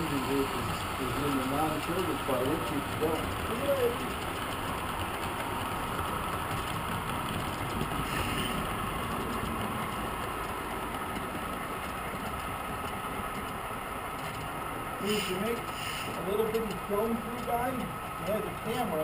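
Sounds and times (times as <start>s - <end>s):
model train rumbling: 0.0s - 19.0s.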